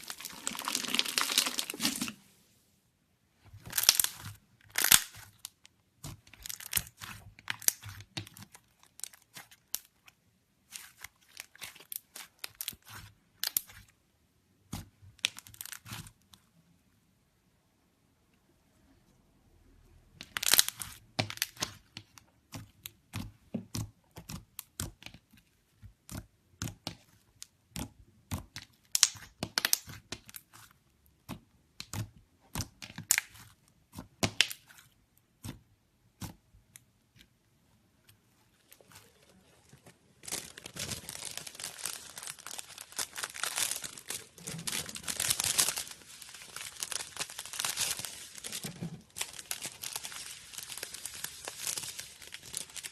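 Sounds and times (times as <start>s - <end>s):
slime crackling: 0.0s - 2.3s, 3.4s - 14.0s, 14.6s - 16.4s, 20.2s - 52.9s.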